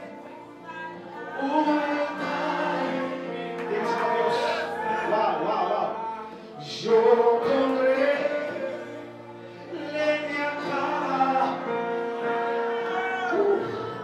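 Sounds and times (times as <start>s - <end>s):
man singing into a microphone: 0.0s - 14.0s
sustained backing chords: 0.0s - 14.0s.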